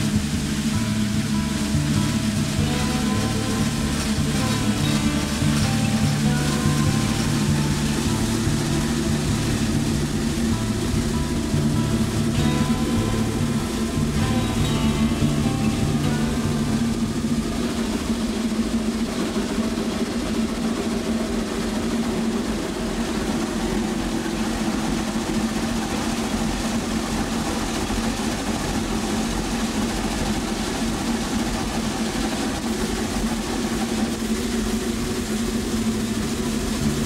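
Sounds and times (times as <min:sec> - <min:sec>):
constant low hum: 0:00.0 - 0:37.0
steam locomotive hiss and rumble: 0:00.0 - 0:37.0.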